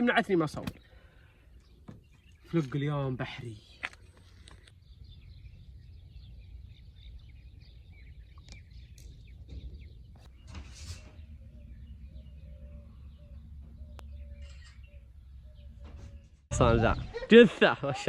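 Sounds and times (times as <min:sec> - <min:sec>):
small birds chirping: 0:00.0 - 0:17.6.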